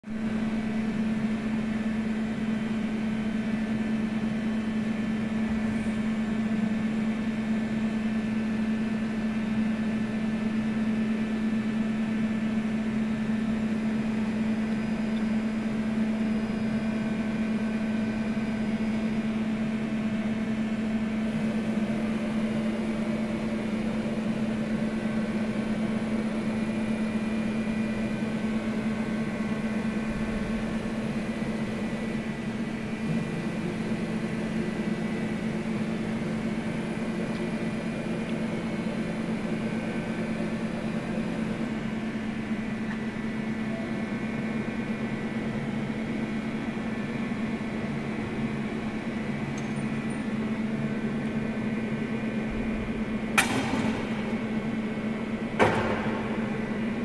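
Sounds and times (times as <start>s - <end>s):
milling machine humming: 0.2s - 57.0s.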